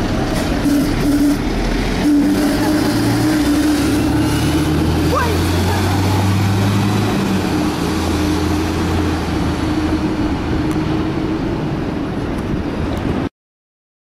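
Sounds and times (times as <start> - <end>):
loud engine suction noise: 0.0 - 12.2
bus engine running: 0.0 - 13.3.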